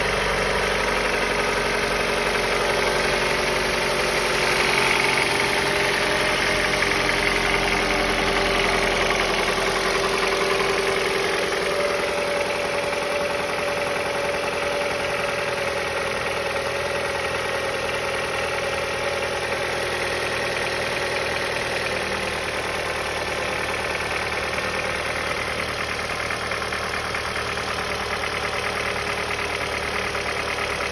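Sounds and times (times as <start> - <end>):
car engine idling: 0.0 - 30.9
engine knock: 0.0 - 30.9.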